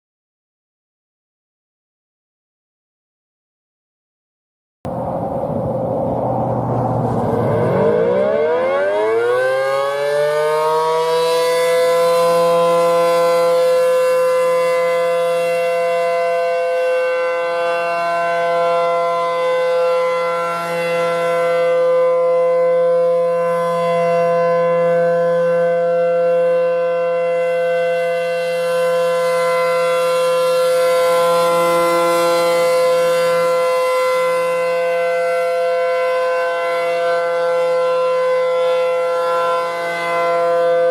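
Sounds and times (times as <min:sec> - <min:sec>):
tornado warning siren: 0:04.9 - 0:40.9.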